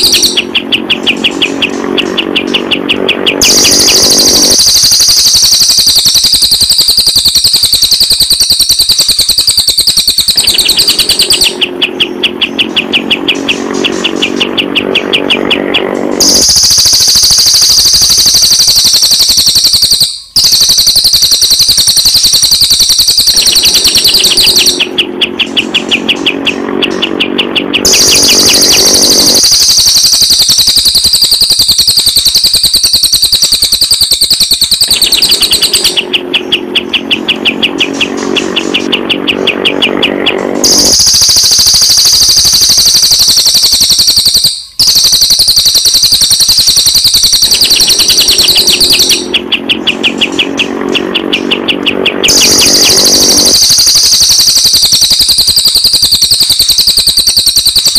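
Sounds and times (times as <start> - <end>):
high fast bird trill: 0.0 - 57.9
pulsing rattling bird call: 0.0 - 57.9.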